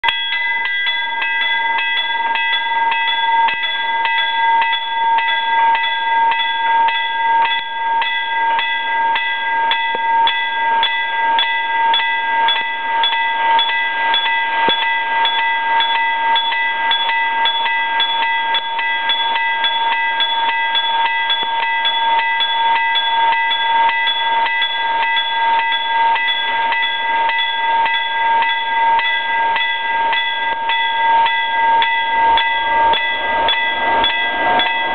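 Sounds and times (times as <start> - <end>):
level crossing warning bell: 0.0 - 34.9.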